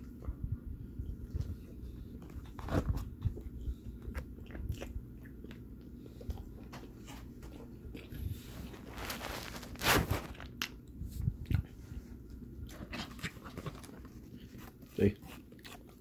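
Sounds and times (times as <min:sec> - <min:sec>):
person chewing crunchy sandwich: 0:01.1 - 0:11.8, 0:12.4 - 0:16.0.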